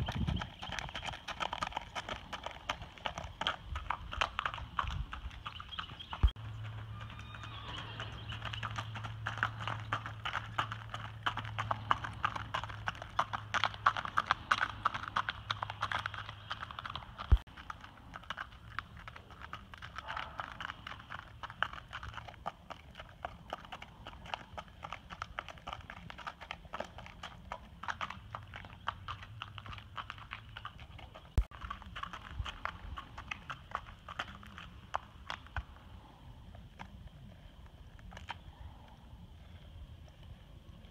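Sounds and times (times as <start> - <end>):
hoofbeats on gravel: 0.0 - 40.9.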